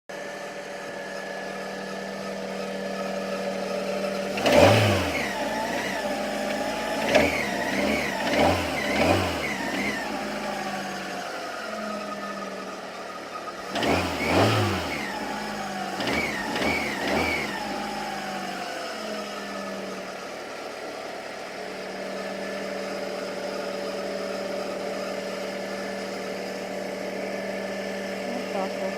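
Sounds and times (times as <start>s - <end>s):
car engine idling and revving: 0.1s - 28.9s.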